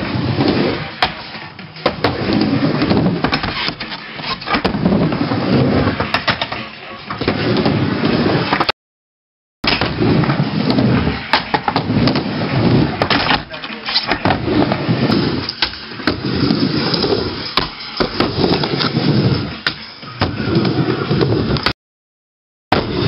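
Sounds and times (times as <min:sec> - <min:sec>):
skateboard wheels rolling: 0:00.0 - 0:08.7, 0:09.7 - 0:21.7, 0:22.8 - 0:23.0.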